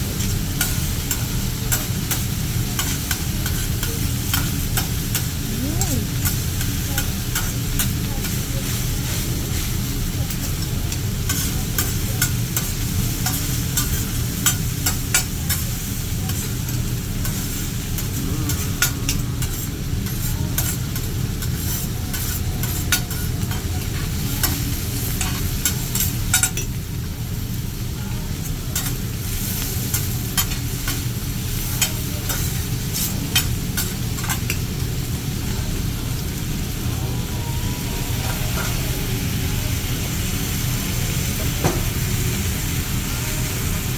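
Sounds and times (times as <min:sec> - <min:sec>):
food sizzling on a griddle: 0:00.0 - 0:43.9.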